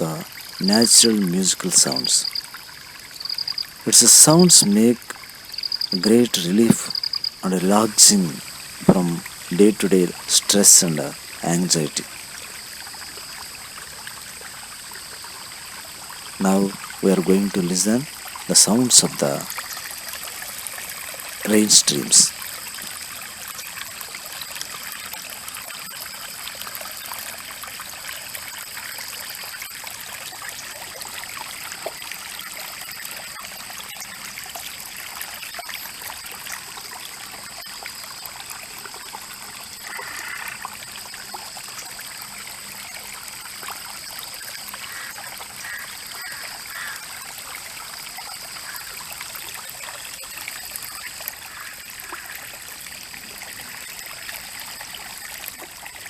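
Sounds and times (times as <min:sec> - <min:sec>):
stream trickling and flowing: 0:00.0 - 0:56.0.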